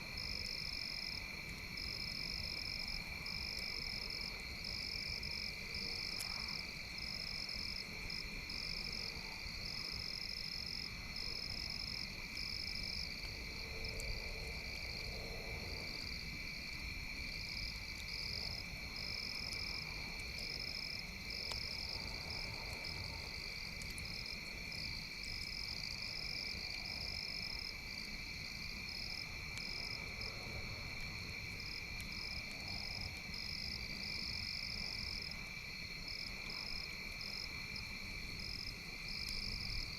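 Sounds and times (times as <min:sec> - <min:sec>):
high trill of frogs and insects: 0:00.1 - 0:39.9.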